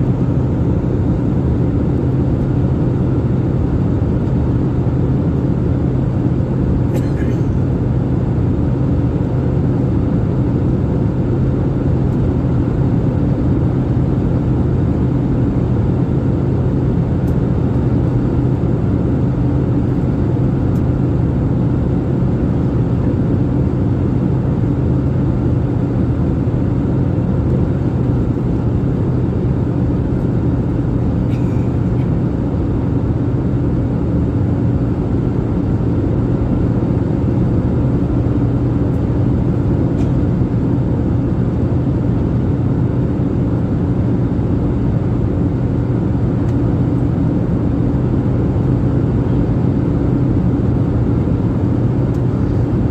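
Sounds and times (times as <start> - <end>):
airliner engine drone: 0.0 - 52.9
low constant hum: 0.0 - 52.9.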